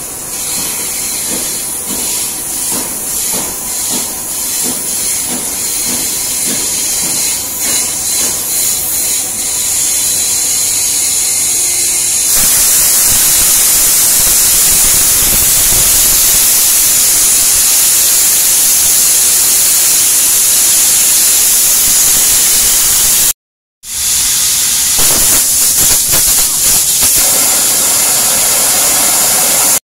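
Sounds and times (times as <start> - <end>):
compressed air hissing from hose: 0.3 - 29.8.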